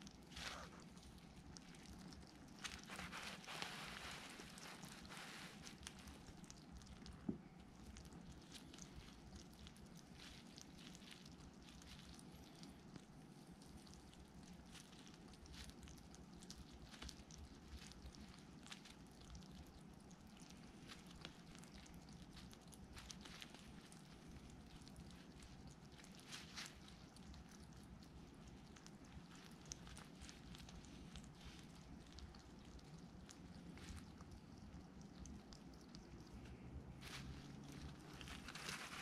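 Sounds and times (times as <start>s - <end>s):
hedgehog crunching food: 0.0s - 39.0s.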